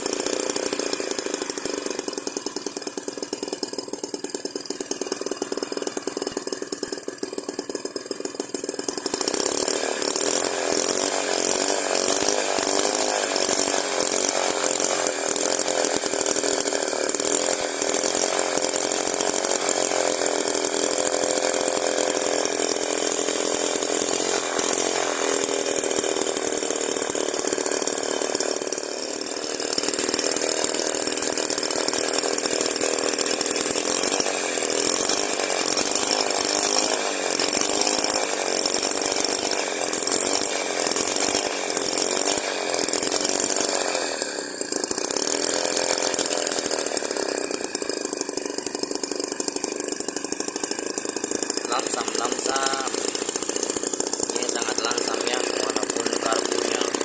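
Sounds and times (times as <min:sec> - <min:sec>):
small two-stroke engine running: 0:00.0 - 0:57.0.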